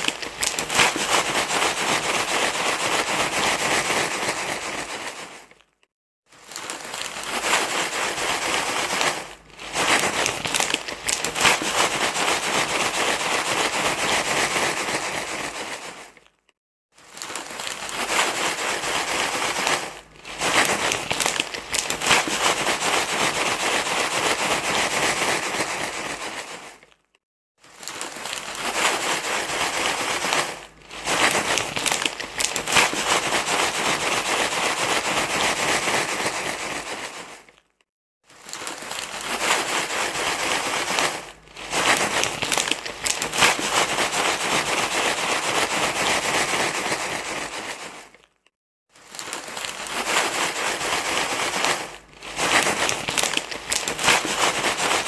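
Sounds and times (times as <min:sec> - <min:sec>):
crinkly rustling: 0:00.0 - 0:55.0.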